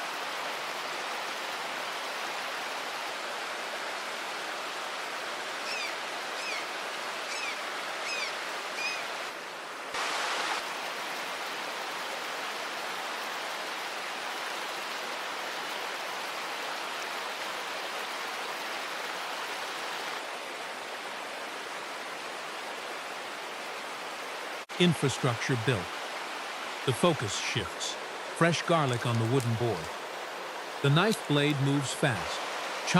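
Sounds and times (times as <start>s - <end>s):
river water over rocks: 0.0s - 32.9s.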